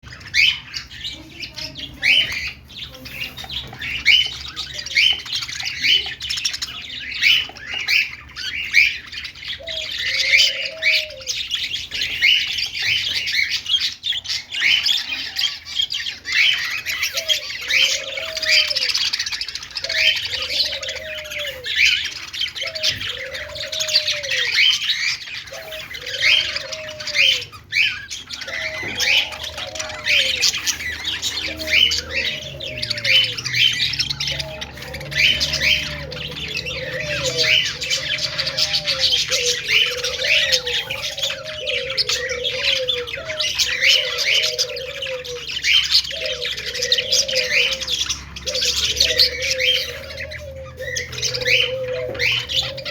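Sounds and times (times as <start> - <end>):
budgies chirping and squawking: 0.0 - 52.9.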